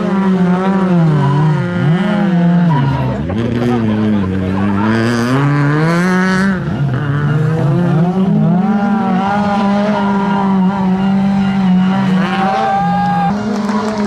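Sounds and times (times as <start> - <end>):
rally car engine revving: 0.0 - 14.0
second car engine running: 0.0 - 14.0.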